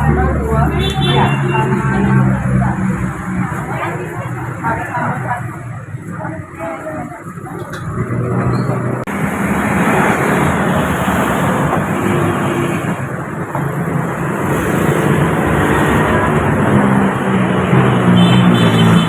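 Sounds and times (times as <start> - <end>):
motor vehicles running close by: 0.0 - 19.0
road noise: 0.0 - 19.0.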